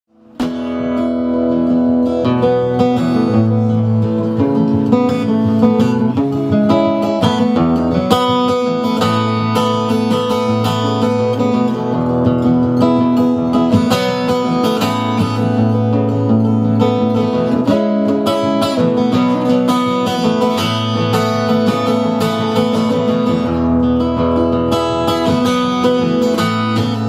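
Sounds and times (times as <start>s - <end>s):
strummed acoustic guitar: 0.1s - 27.0s.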